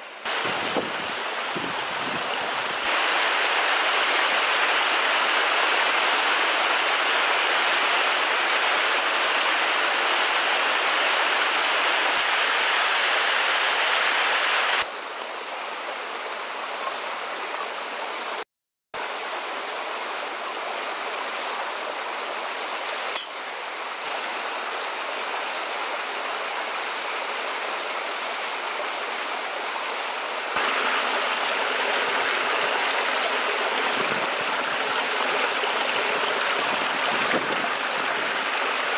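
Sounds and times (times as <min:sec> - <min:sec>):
stream rushing over rocks: 0:00.0 - 0:18.4, 0:19.0 - 0:38.9.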